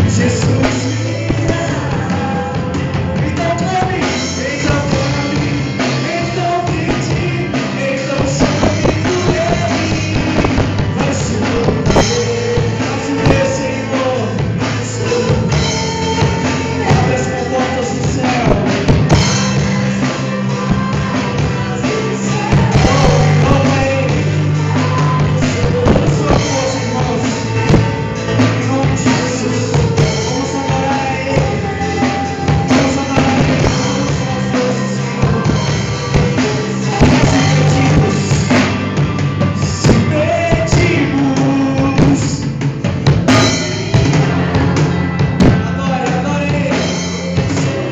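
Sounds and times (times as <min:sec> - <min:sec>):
live worship band with singing: 0:00.0 - 0:47.9.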